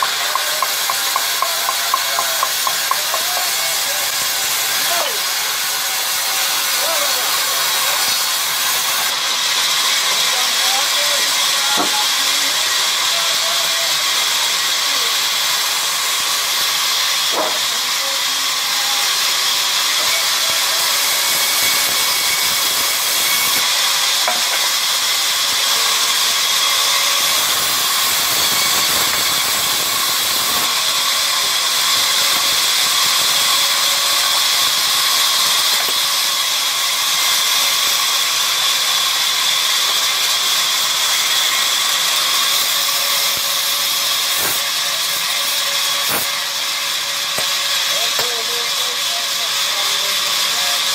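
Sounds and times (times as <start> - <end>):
band saw ripping planks: 0.0 - 50.9.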